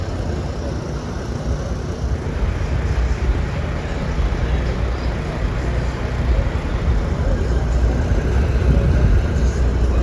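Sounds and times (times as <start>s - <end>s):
low rumble of vehicles: 0.0s - 10.0s.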